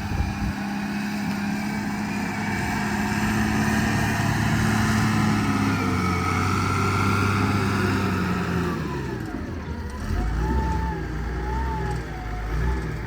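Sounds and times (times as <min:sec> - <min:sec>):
wheel loader diesel engine: 0:00.0 - 0:13.0.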